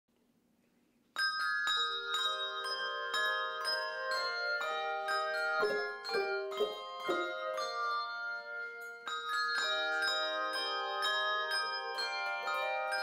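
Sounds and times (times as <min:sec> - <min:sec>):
handbell choir ringing a melody: 0:01.2 - 0:13.0.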